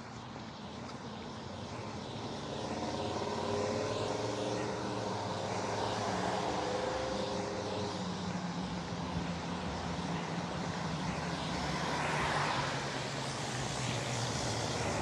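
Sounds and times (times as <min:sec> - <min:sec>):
engine drone: 0:00.0 - 0:15.0
traffic on wet road: 0:00.0 - 0:15.0.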